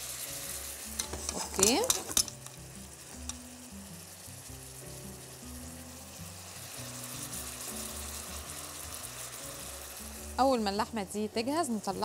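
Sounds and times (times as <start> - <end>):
spatula stirring in a wok: 0.0 - 10.8
beef sizzling in a wok: 0.0 - 12.0
soft background music: 0.0 - 12.0.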